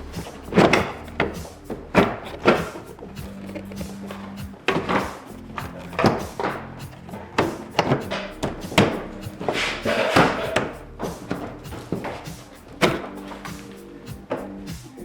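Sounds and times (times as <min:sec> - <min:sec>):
background music: 0:00.0 - 0:15.0
plastic bumper knocks and clunks: 0:00.3 - 0:13.6.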